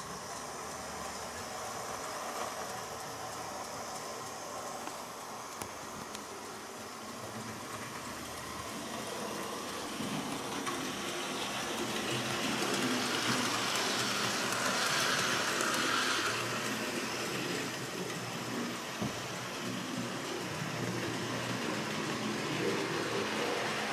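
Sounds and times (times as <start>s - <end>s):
model train motor whirring: 0.0s - 23.9s
model train wheels rumbling: 0.0s - 23.9s.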